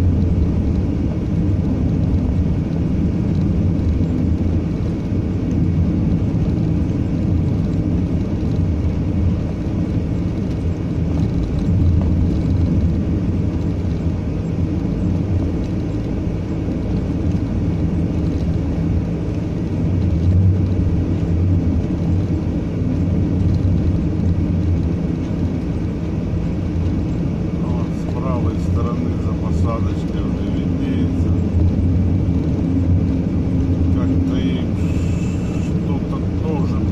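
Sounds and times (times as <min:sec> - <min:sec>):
road rumble: 0:00.0 - 0:36.9
vehicle engine hum: 0:00.0 - 0:36.9.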